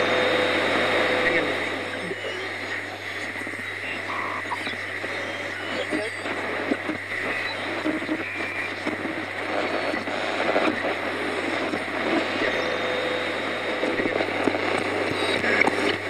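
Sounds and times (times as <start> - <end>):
radio static and hiss: 0.0 - 16.0.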